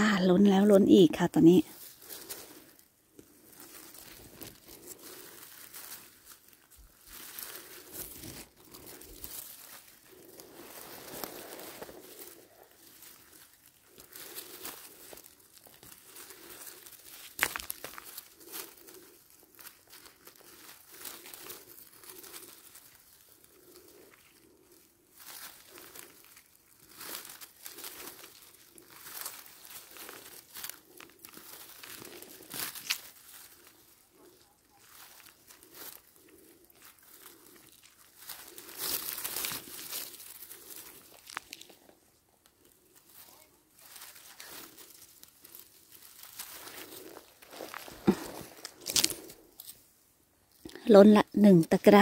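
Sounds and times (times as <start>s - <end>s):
rustling and crinkling vegetation: 0.0s - 52.0s.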